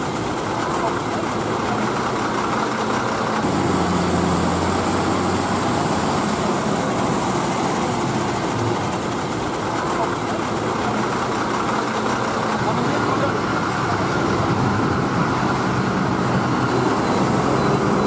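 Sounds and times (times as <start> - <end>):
lorry diesel engine running: 0.0 - 18.0
people's voices: 0.0 - 18.0.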